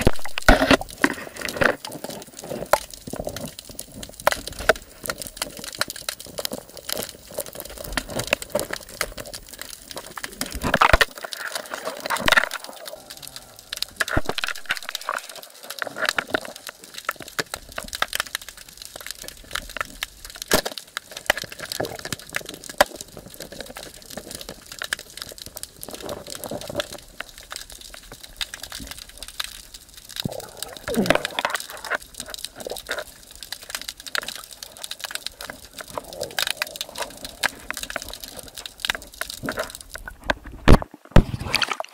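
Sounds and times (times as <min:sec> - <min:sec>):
gurgling water swishes: 0:00.0 - 0:41.9
underwater crackling and clicking: 0:00.0 - 0:41.9.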